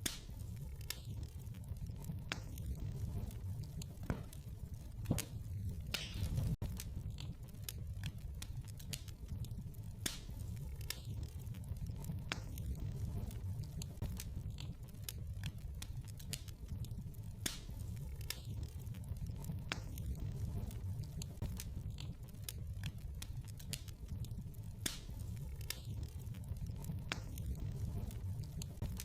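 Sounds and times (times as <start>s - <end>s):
wood fire crackling in fireplace: 0.0s - 29.0s.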